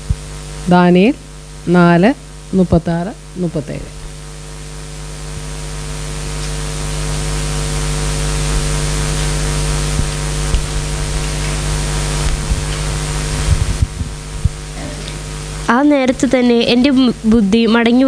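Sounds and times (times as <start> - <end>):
electrical hum and hiss: 0.0 - 18.0.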